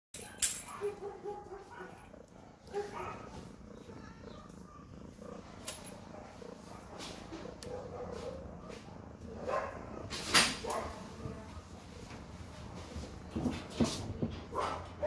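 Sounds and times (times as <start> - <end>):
kitten purring: 0.7 - 15.0.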